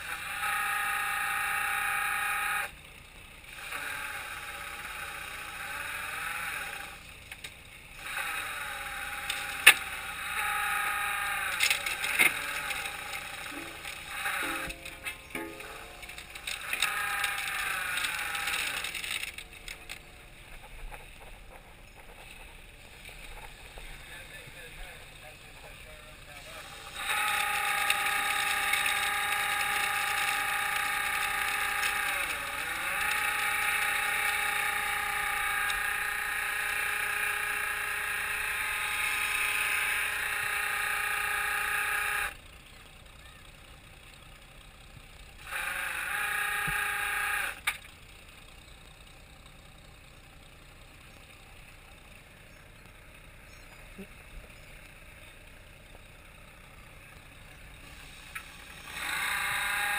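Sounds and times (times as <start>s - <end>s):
hydraulic winch whining: 0.0s - 59.9s.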